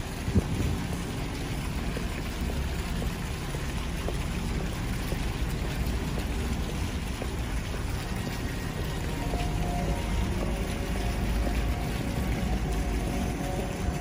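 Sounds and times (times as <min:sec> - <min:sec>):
fountain jets splashing: 0:00.0 - 0:14.0
steady low rumble: 0:00.0 - 0:14.0.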